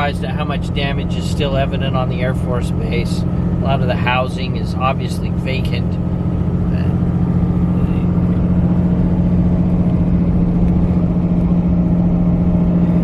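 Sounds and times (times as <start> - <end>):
vehicle engine and road drone: 0.0 - 13.0.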